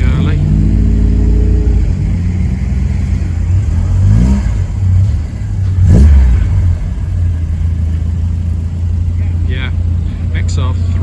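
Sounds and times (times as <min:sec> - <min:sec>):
car engines running: 0:00.0 - 0:11.0
engine revving: 0:00.0 - 0:11.0.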